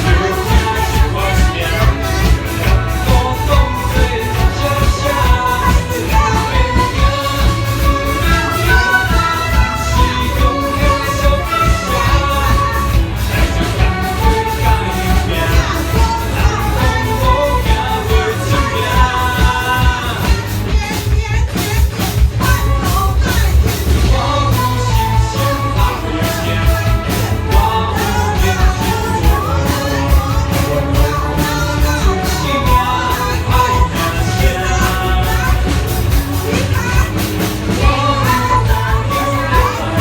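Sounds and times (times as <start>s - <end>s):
orchestra playing pop song: 0.0s - 40.0s
person singing: 0.0s - 40.0s.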